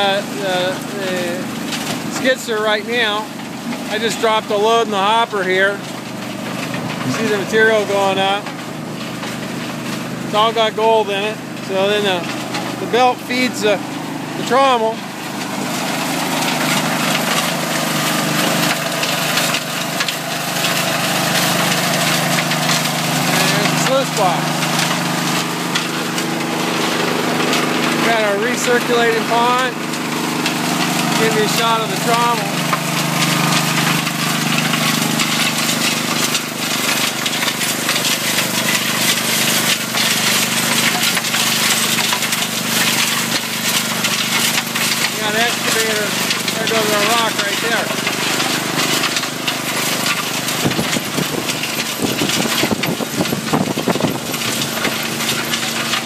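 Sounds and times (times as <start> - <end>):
engine drone: 0.0 - 56.0
gravel and rock rattling: 0.0 - 56.0.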